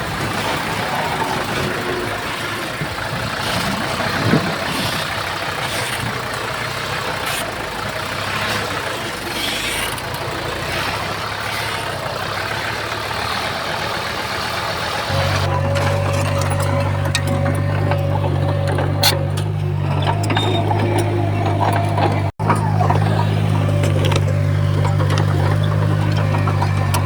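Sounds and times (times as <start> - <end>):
deep steady engine note: 0.0 - 27.0
diesel earthmoving machinery running: 0.0 - 27.0.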